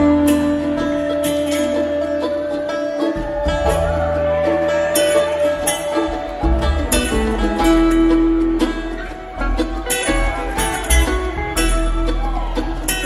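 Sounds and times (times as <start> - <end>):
acoustic guitars picking: 0.0 - 13.0
upright bass: 0.0 - 13.0.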